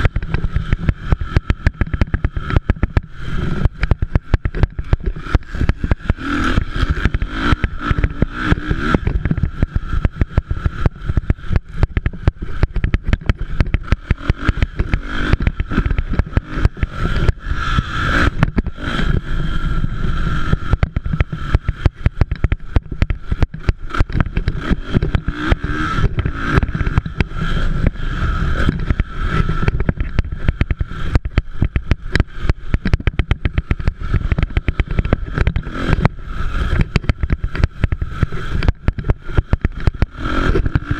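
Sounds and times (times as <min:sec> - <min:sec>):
low rumble and crackle: 0:00.0 - 0:40.9
motorcycle engines: 0:00.0 - 0:40.9.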